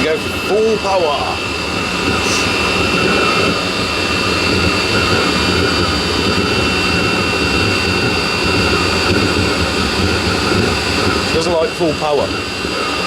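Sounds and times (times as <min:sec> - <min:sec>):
heater backfiring: 0:00.0 - 0:13.0
heater fan whine: 0:00.0 - 0:13.0
rough combustion rumble: 0:00.0 - 0:13.0.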